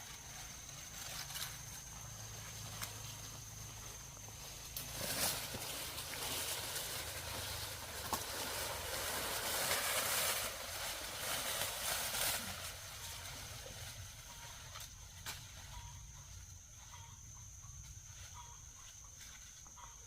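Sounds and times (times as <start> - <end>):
dry corn plants rustling: 0.0 - 20.0.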